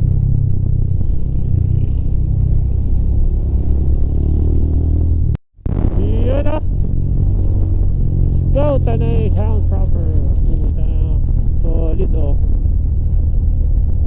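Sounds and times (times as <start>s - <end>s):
motorcycle engine rumble: 0.0s - 14.0s
wind noise: 0.0s - 14.0s.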